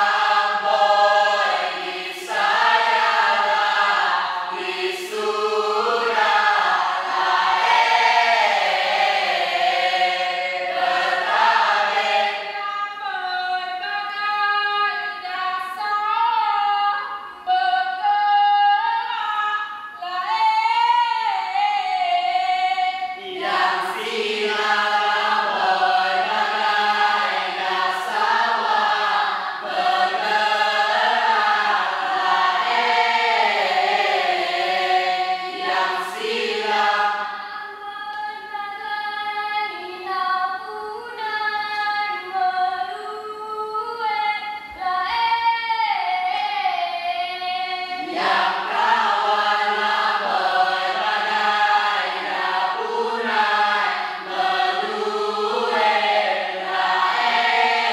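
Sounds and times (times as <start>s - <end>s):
women singing together: 0.0s - 57.9s.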